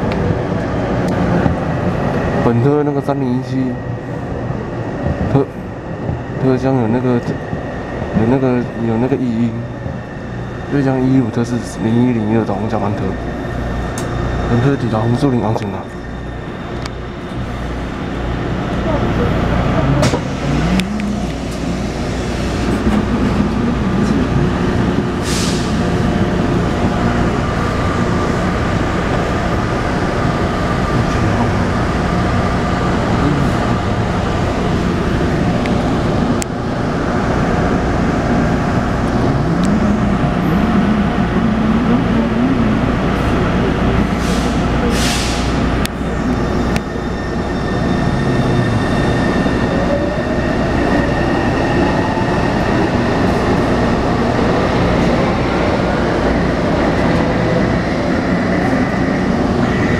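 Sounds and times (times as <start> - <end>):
train inverter tones: 0.1 - 59.9.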